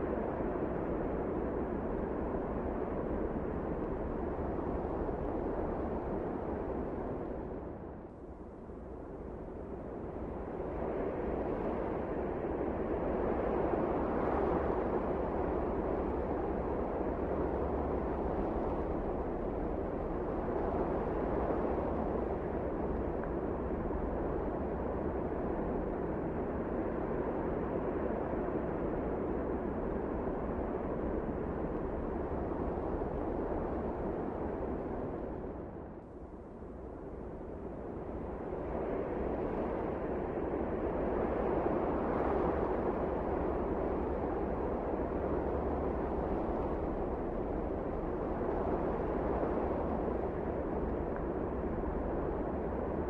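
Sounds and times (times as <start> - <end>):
blizzard wind rushing: 9.3 - 53.0.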